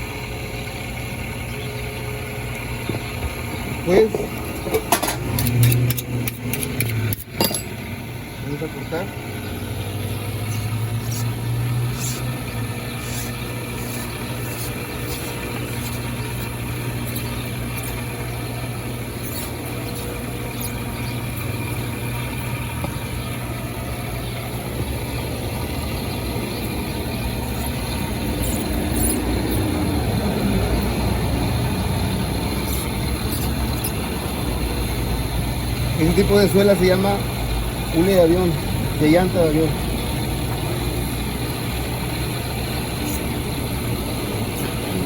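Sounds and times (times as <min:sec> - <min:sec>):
low motor hum: 0:00.0 - 0:45.0.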